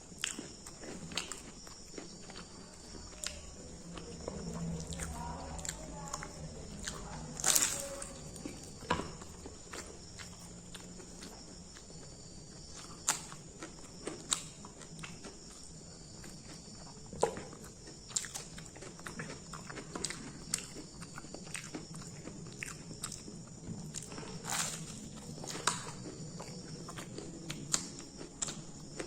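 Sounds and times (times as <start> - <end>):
person chewing crunchy food: 0.0 - 29.0.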